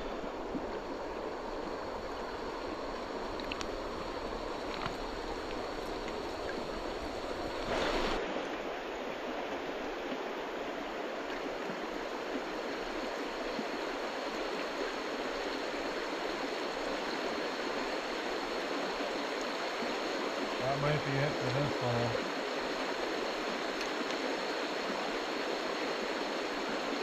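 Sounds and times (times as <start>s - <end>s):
creek water running over rocks: 0.0s - 27.0s.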